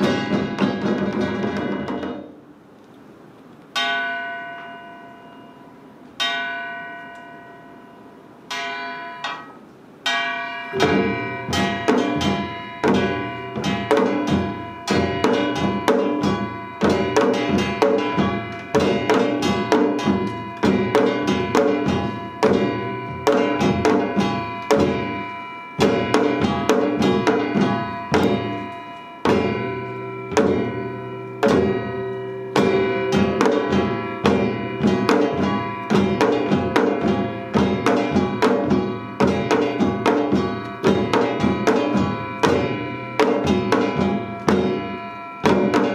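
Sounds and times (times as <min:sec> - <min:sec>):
drum strokes: 0:00.0 - 0:02.6, 0:08.5 - 0:45.9
gongs ringing: 0:03.7 - 0:45.9.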